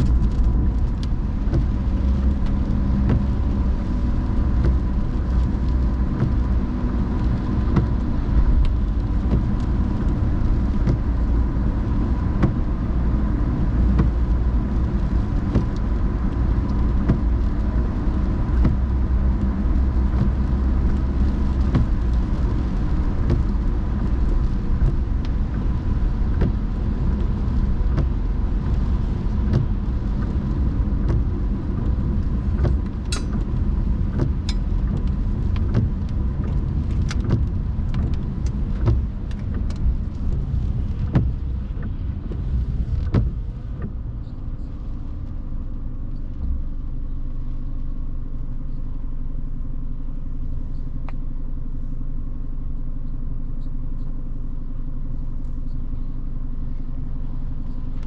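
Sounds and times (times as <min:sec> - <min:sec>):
light rain ticks: 0:00.0 - 0:51.6, 0:55.0 - 0:58.0
car road and engine rumble: 0:00.0 - 0:58.0.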